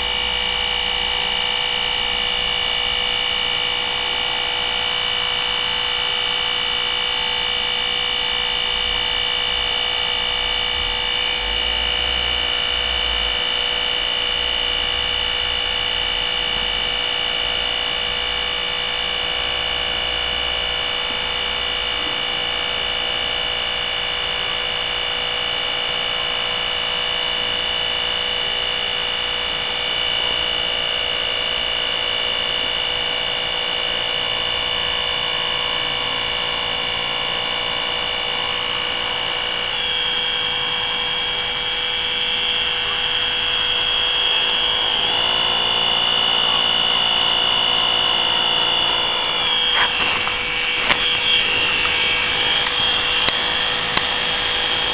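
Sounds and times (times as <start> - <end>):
steady electric whine: 0.0 - 54.9.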